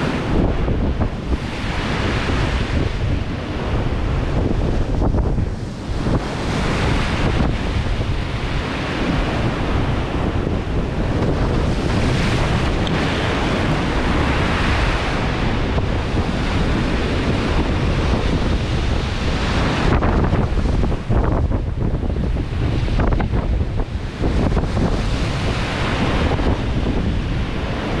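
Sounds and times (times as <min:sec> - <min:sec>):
sea waves breaking: 0:00.0 - 0:28.0
wind buffeting microphone: 0:00.0 - 0:28.0.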